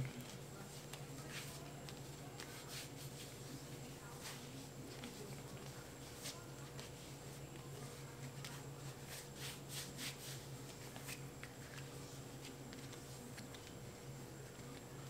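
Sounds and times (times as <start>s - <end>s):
soft scratchy strokes: 0.6s - 13.3s.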